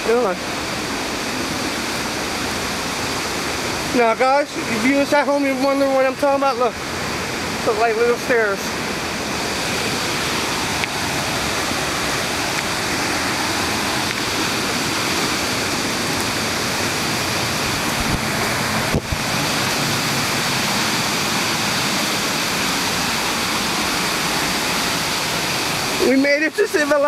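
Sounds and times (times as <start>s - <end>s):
whitewater rushing: 0.0s - 27.0s.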